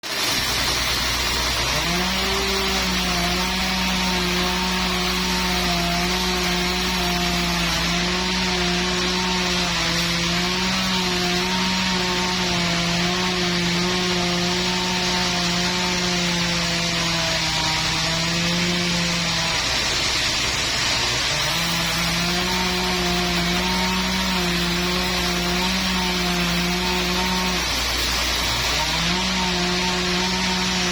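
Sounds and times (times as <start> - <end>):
machine hum: 0.0 - 30.9
saw cutting log: 0.0 - 30.9.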